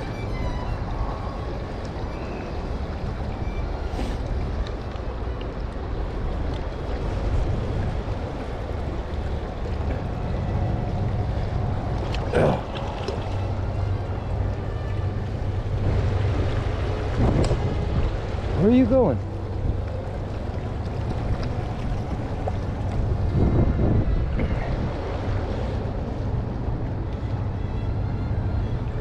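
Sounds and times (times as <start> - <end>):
river water rushing: 0.0 - 29.0
wind buffeting microphone: 0.0 - 29.0.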